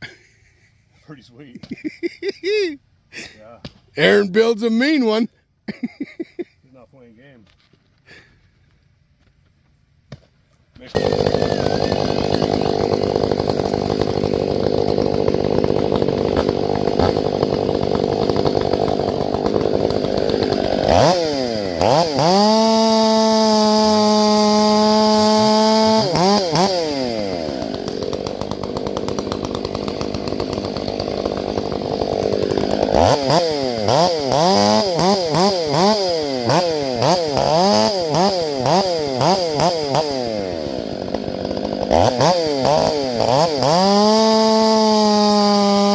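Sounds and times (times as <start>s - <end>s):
chainsaw revving: 4.0s - 6.4s, 10.8s - 45.9s.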